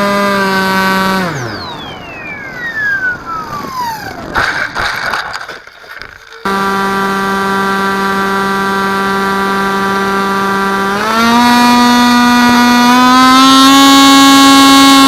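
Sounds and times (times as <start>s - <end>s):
quadcopter motors whining: 0.0s - 5.2s, 6.0s - 15.0s.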